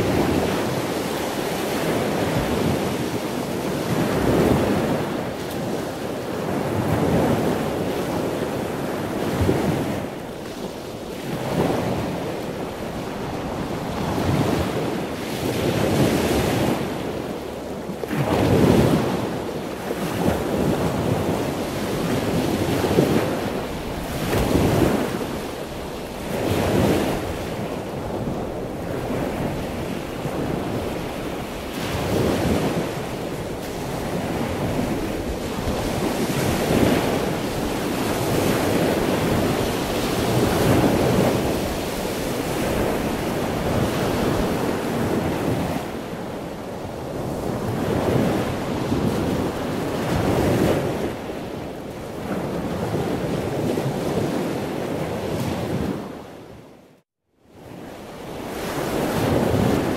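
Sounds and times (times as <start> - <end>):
ocean waves breaking: 0.0 - 56.7, 57.6 - 59.9
wind on microphone: 0.0 - 56.9, 57.5 - 59.9.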